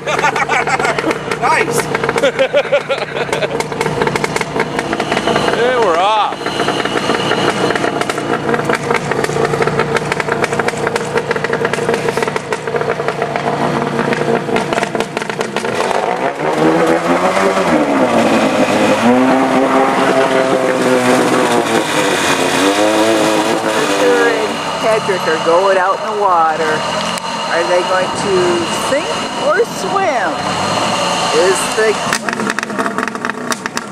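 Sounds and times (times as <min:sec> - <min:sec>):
engine droning and revving: 0:00.0 - 0:33.9.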